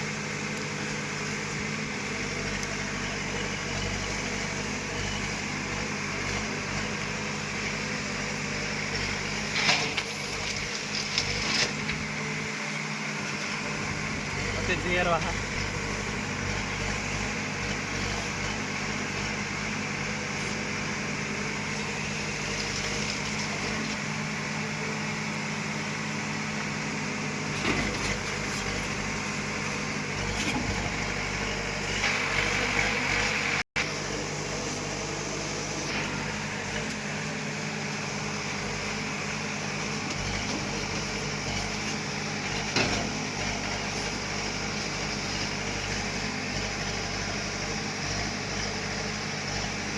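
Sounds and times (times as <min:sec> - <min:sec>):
diesel engine running under load: 0:00.0 - 0:49.9.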